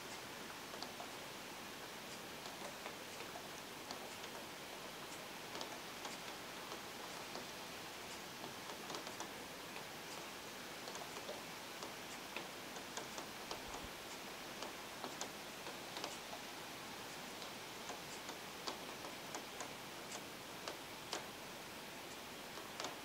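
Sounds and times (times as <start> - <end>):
raindrops ticking nearby: 0.0 - 23.0
steady rain hiss: 0.0 - 23.0.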